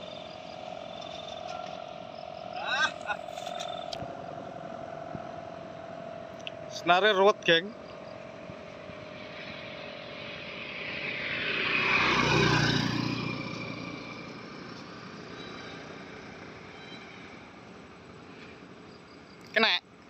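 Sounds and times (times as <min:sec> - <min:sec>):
vehicle passing: 0:00.0 - 0:18.9.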